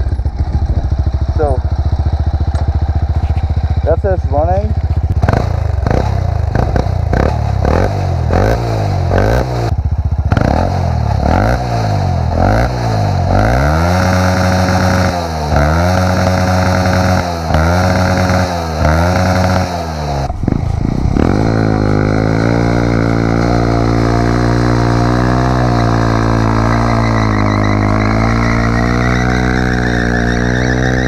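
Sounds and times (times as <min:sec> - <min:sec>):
motorcycle engine revving: 0:00.0 - 0:31.0
steady engine drone: 0:00.0 - 0:31.0.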